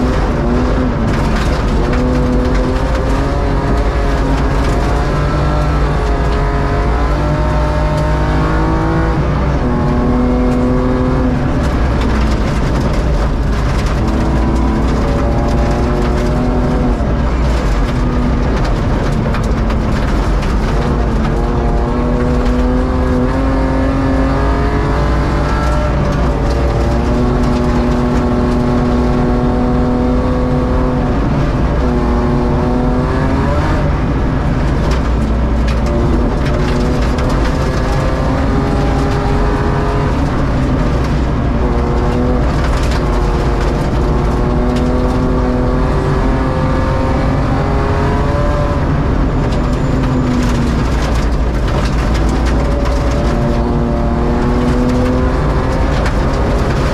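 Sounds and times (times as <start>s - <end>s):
gravel pinging against car underside: 0.0s - 32.4s, 33.0s - 46.0s, 47.9s - 56.9s
rally car engine revving: 0.0s - 56.9s.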